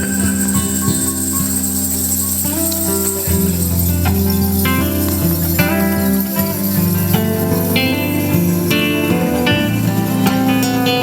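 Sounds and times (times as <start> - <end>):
acoustic guitar melody: 0.0 - 11.0
bass line: 0.0 - 11.0.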